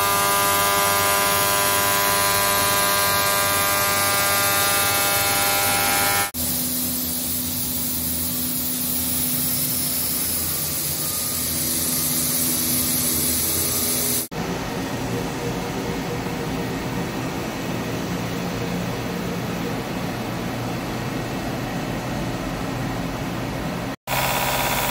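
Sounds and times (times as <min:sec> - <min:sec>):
lathe mechanical whine and hum: 0:00.0 - 0:24.9.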